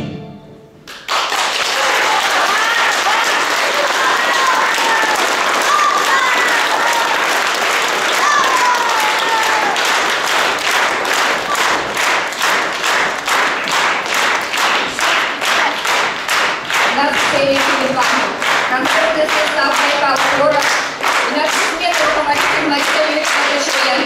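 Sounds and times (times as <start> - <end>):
audience clapping in rhythm: 0.8 - 24.0.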